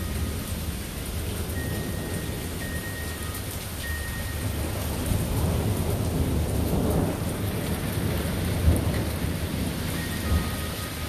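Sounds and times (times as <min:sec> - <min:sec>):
steady rain: 0:00.0 - 0:11.0
thunder rumbling: 0:00.0 - 0:11.0.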